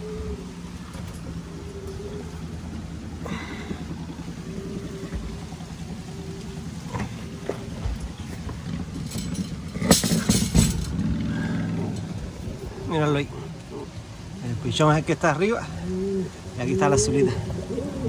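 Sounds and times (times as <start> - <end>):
pigeons cooing softly: 0.0 - 18.0
steady low hum: 0.0 - 18.0.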